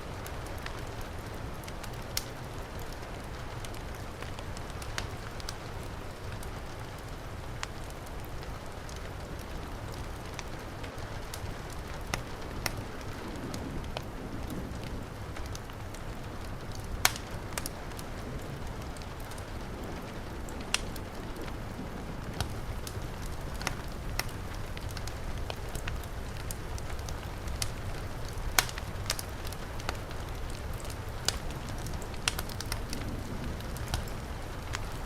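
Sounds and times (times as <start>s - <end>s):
heavy rain falling: 0.0s - 35.0s
wood fire crackling: 0.0s - 35.0s.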